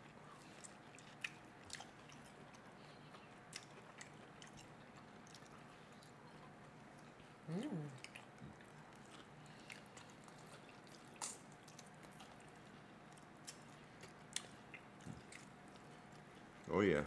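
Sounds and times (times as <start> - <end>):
chewing fried chicken: 0.0 - 17.0.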